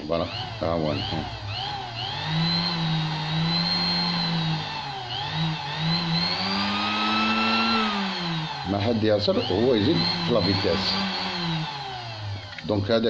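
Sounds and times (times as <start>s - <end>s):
sewing machine motor whine: 0.0s - 13.0s.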